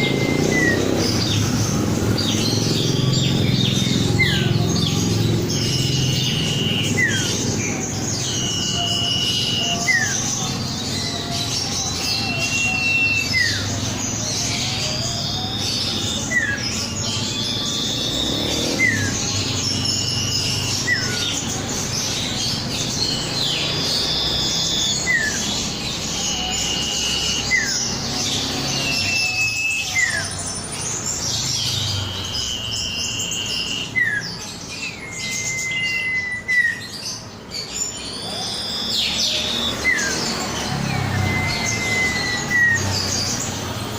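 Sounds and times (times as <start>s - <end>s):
bird chirps: 0.0s - 43.9s
bird singing whistled phrase: 0.0s - 43.9s.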